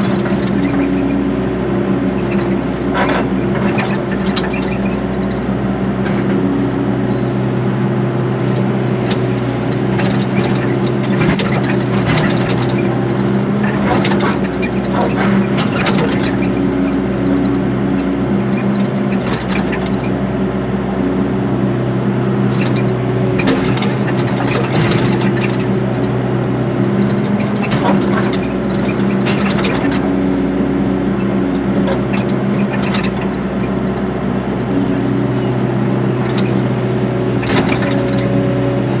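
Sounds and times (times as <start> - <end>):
excavator clanks: 0.0 - 7.6, 8.3 - 20.3, 21.8 - 39.0
excavator diesel engine running: 0.0 - 39.0.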